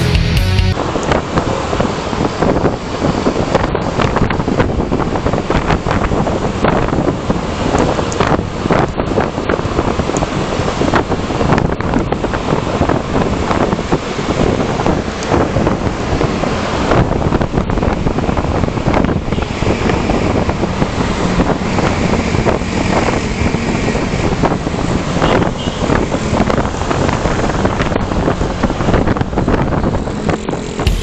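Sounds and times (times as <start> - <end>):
motorcycle and road noise: 0.8 - 30.9.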